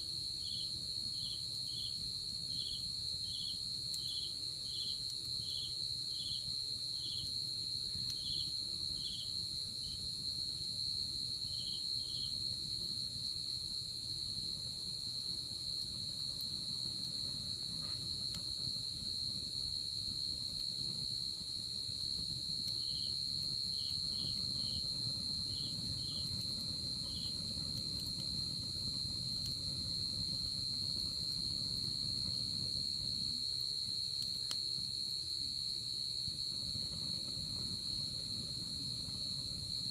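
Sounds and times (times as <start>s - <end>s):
crickets trilling: 0.1s - 39.9s
insect chirps: 0.1s - 39.9s.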